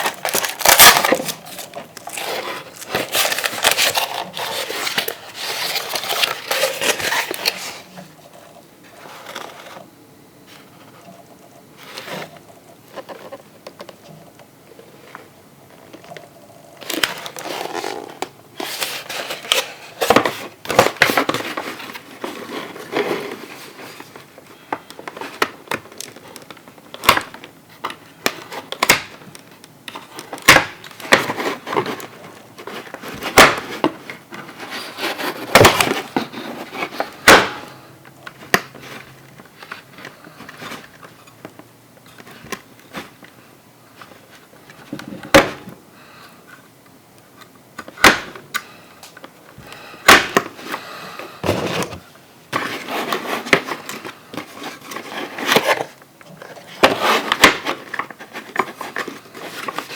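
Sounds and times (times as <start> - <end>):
packaging rustling: 0.0 - 9.8, 15.8 - 46.1, 47.8 - 59.9.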